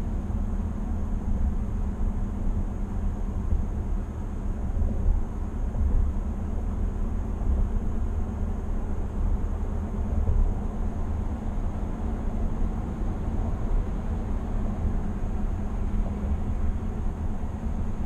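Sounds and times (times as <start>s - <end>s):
road and tyre noise in vehicle: 0.0s - 18.0s.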